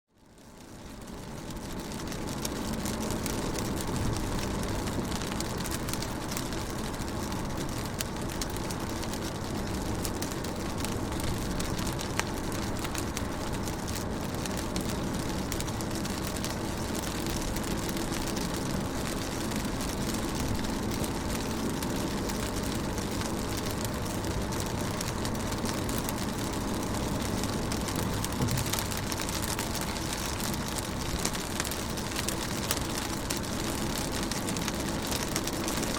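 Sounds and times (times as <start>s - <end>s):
rain on window pane: 0.2s - 35.9s.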